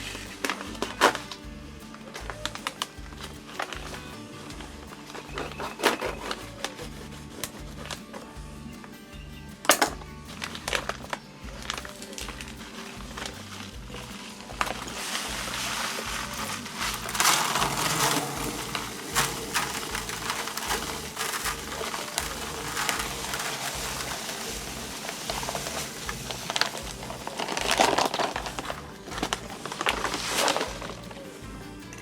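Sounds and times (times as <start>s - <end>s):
background music: 0.0s - 32.0s
crunching and scraping work noises: 0.0s - 32.0s.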